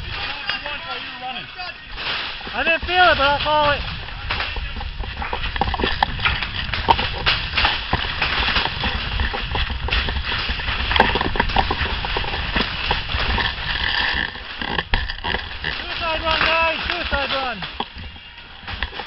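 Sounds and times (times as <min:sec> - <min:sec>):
knocks and clatter: 0:02.0 - 0:19.0.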